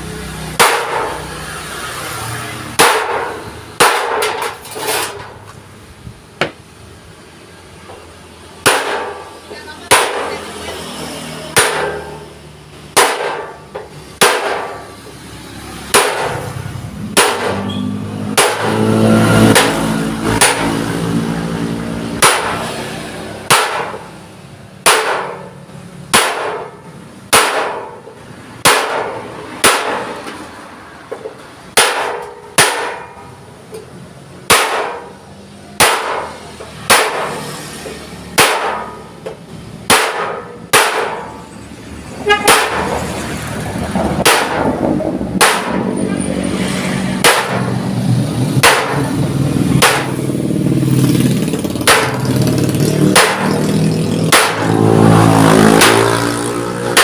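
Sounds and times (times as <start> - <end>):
hammer striking steel sheet: 0.5 - 1.4, 2.8 - 5.4, 8.6 - 10.6, 11.5 - 14.9, 15.9 - 24.2, 24.8 - 30.4, 31.2 - 33.3, 34.4 - 35.2, 35.8 - 41.4, 42.2 - 57.0.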